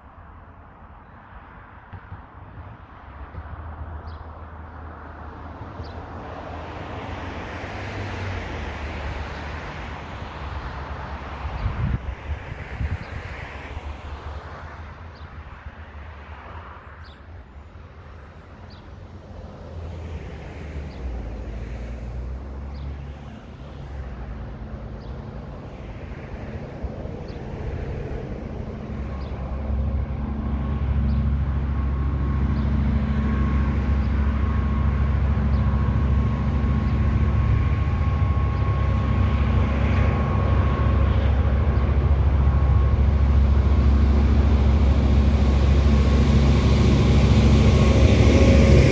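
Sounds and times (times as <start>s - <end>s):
diesel train engine hum: 0.0s - 48.9s.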